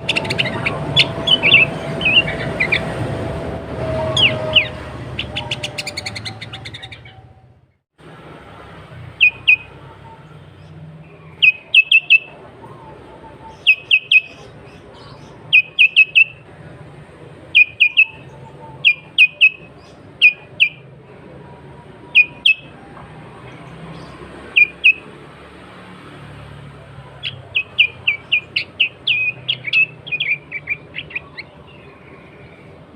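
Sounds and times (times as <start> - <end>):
bulbul calling: 0.0 - 7.6, 9.1 - 16.5, 17.5 - 21.0, 22.0 - 25.2, 27.0 - 32.9.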